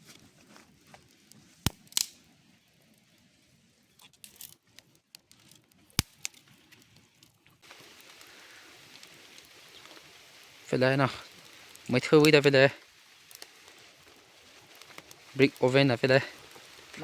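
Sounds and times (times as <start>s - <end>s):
soft crackling: 0.0s - 17.0s.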